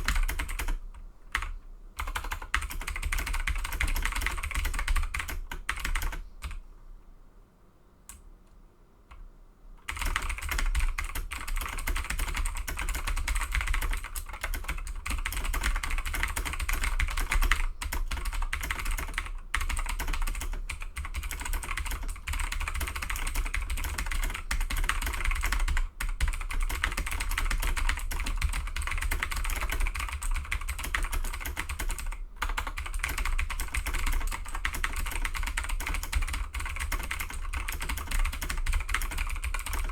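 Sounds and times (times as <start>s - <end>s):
mechanical keyboard clicking: 1.4s - 6.6s, 9.8s - 39.9s.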